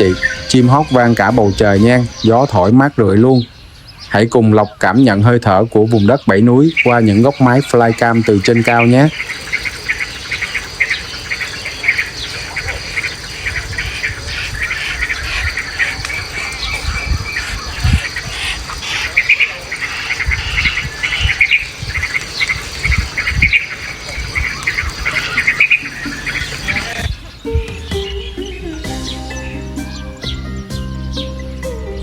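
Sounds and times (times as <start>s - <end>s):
wind rumbling on microphone: 0.0s - 28.4s
birds chirping: 0.0s - 32.0s.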